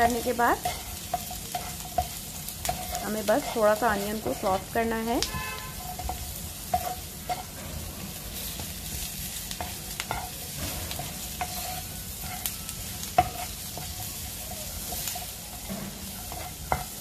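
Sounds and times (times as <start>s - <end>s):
onions sizzling in a frying pan: 0.0s - 17.0s
spatula scraping and tapping pan: 0.1s - 17.0s.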